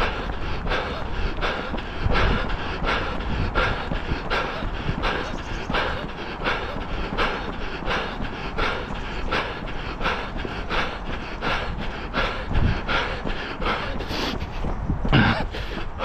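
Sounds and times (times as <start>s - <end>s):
hard panting: 0.0s - 16.0s
running footsteps: 0.0s - 16.0s.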